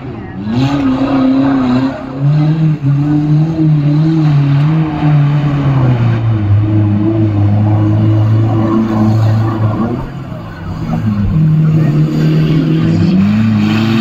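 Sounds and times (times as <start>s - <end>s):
off-road vehicle engine revving: 0.0s - 14.0s
vehicle pushing through muddy water: 0.0s - 14.0s.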